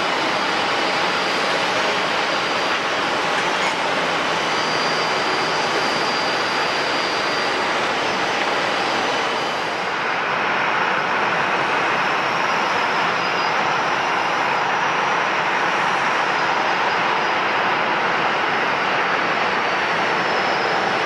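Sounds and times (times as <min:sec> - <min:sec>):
jet airliner engines running: 0:00.0 - 0:21.0.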